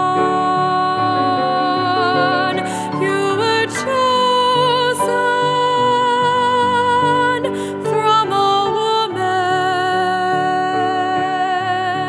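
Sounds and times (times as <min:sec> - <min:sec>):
grand piano accompaniment: 0:00.0 - 0:12.0
woman singing a hymn: 0:00.0 - 0:12.0.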